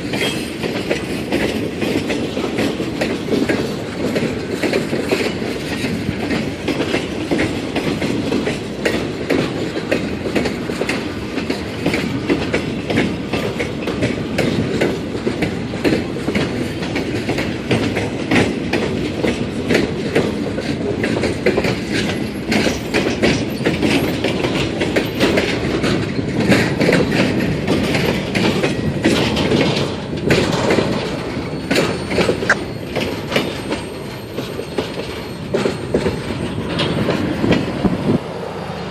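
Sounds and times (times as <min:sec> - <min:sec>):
freight train wheels clacking: 0:00.0 - 0:38.9
rumble of train cars: 0:00.0 - 0:38.9.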